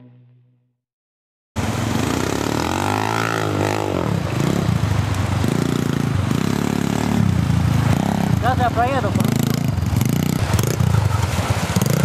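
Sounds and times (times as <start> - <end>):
dirt bike engine revving: 1.6 - 12.0.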